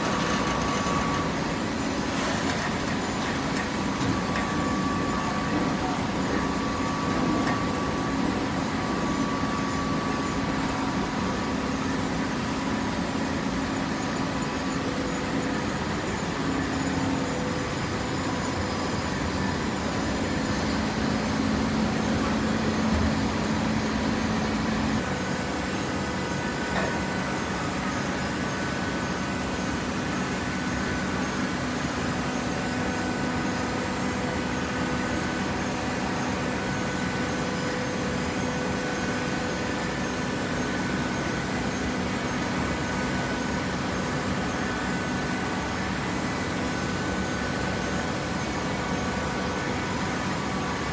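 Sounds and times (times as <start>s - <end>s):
pump motor humming: 0.0s - 11.3s, 18.1s - 50.9s.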